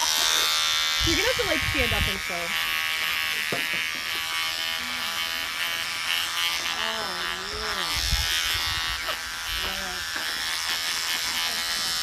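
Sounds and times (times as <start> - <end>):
electric beard trimmer buzzing: 0.0 - 12.0.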